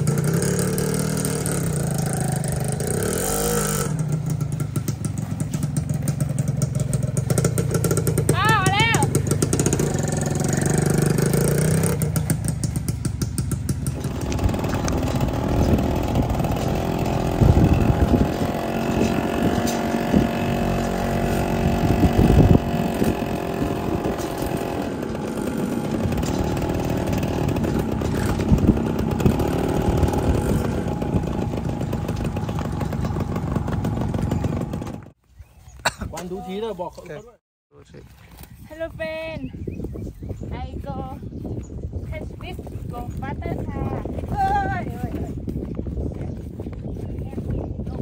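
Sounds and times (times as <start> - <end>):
motorcycle engine running: 0.0 - 35.2, 38.7 - 48.0
road and wind noise: 0.0 - 48.0.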